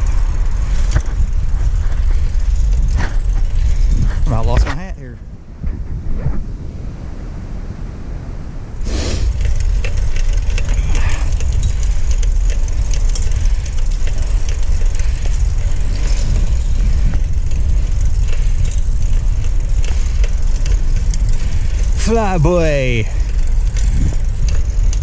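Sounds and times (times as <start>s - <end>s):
rattling and clatter: 0.0s - 6.0s, 9.2s - 25.0s
wind and road noise rumble: 0.0s - 25.0s.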